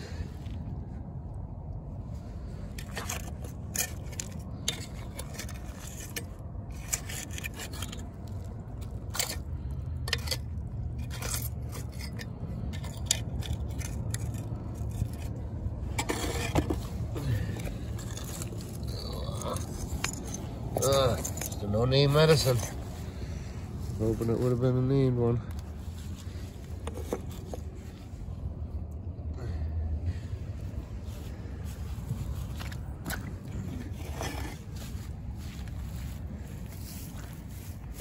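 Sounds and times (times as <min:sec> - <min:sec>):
steady low rumble: 0:00.0 - 0:38.0
garden claw scraping gravel: 0:02.4 - 0:28.0, 0:31.1 - 0:38.0.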